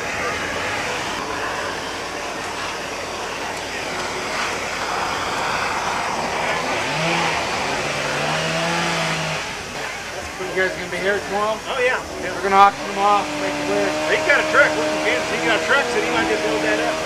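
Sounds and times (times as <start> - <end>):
gas torch hissing roar: 0.0 - 17.0.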